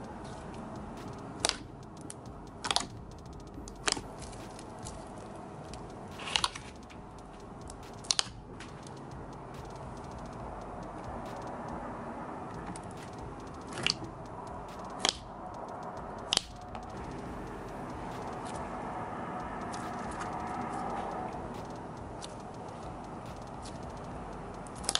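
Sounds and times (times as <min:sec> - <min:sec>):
steady low hiss: 0:00.0 - 0:24.9.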